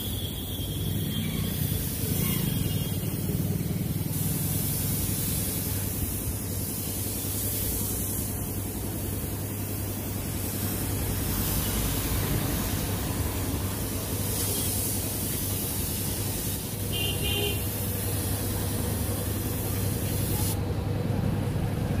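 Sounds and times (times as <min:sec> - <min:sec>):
spray gun hissing: 0:00.0 - 0:20.6.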